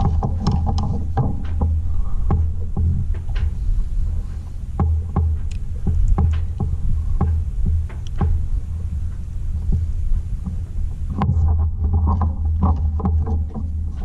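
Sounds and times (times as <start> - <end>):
low throbbing hum: 0.0 - 14.0.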